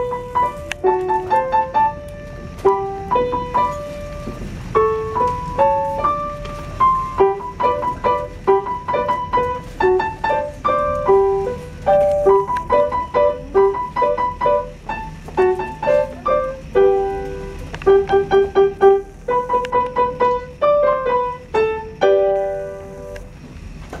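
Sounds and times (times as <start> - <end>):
piano playing treble notes: 0.0 - 23.3.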